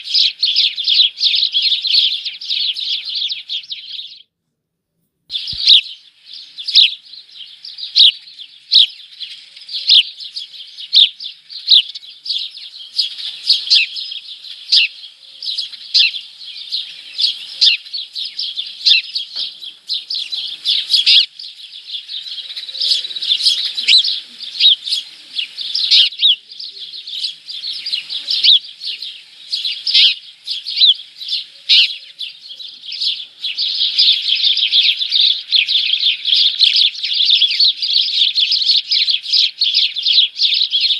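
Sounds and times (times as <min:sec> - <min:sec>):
small birds chirping: 0:00.0 - 0:04.4, 0:05.3 - 0:40.9.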